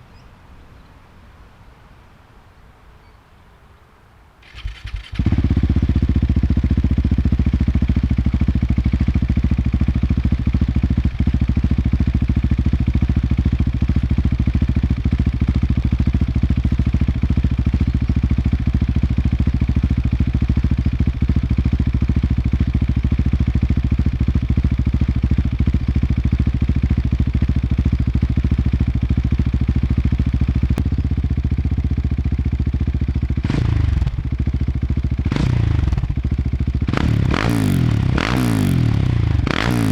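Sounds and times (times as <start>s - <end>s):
motorcycle engine idling: 4.4s - 39.9s.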